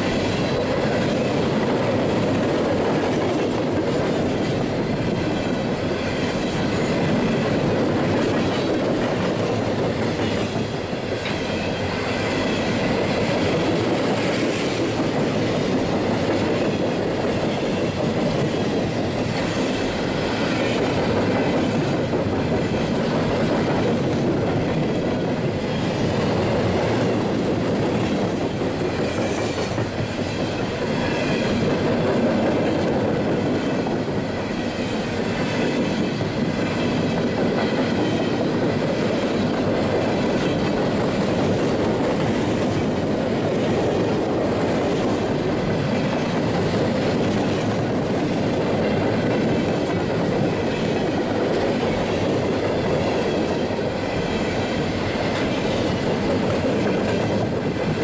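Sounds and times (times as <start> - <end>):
steel train wheels on rails: 0.0 - 58.0.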